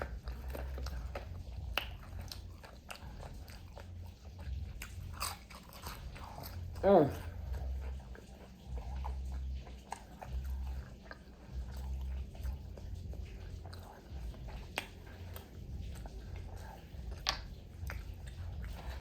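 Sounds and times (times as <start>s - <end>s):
chewing fried food: 0.0s - 19.0s.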